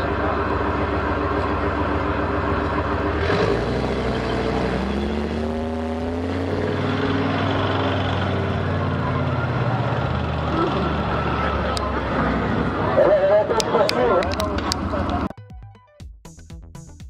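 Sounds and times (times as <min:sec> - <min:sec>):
tank diesel engine driving past: 0:00.0 - 0:15.3.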